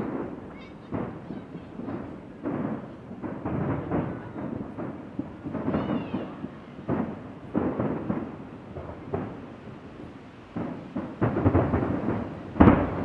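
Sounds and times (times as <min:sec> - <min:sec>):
distant fireworks booms: 0:00.0 - 0:13.0.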